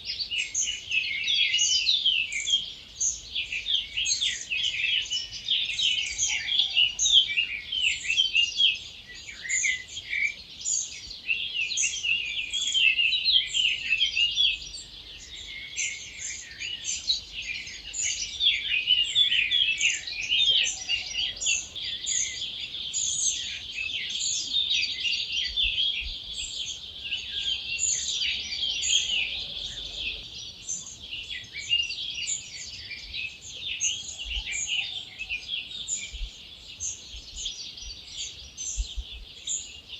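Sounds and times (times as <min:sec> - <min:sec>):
many birds singing: 0:00.0 - 0:39.9.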